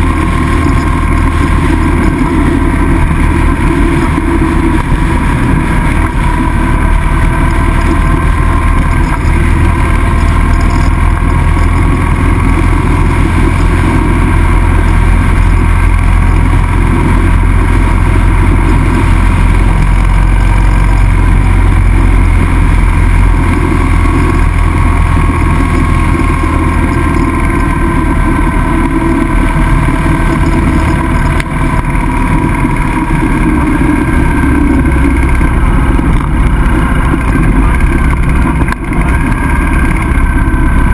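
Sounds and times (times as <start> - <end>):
motorcycle engine running: 0.0 - 40.9
road noise: 0.0 - 40.9
wind noise: 0.0 - 40.9.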